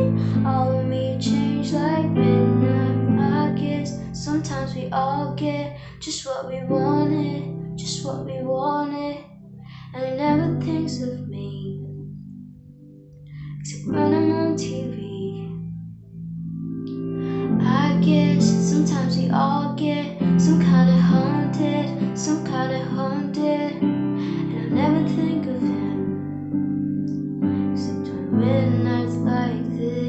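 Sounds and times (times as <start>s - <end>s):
woman singing: 0.0s - 12.0s, 13.6s - 15.6s, 17.4s - 26.4s, 27.6s - 30.0s.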